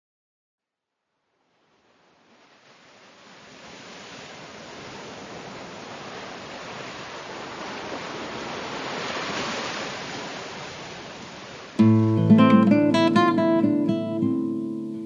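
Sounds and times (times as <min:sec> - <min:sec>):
sea surf rushing: 0:01.7 - 0:15.0.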